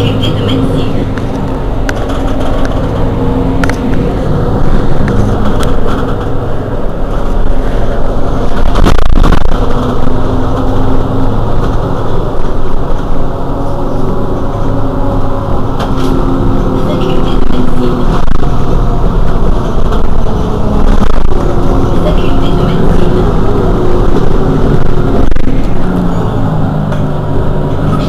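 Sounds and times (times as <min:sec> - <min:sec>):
bus engine idling: 0:00.0 - 0:08.7, 0:09.5 - 0:28.0.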